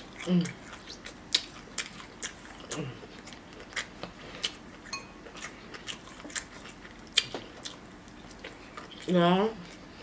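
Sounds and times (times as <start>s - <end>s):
close-miked chewing with mouth smacks: 0.0s - 10.0s.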